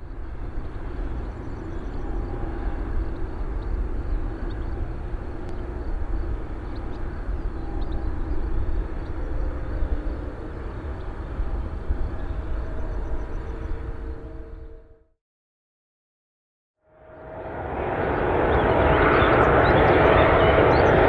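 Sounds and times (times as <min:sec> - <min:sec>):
wind rumbling on microphone: 0:00.0 - 0:14.9, 0:17.0 - 0:21.0
distant jet engines droning: 0:00.0 - 0:15.0, 0:16.8 - 0:21.0.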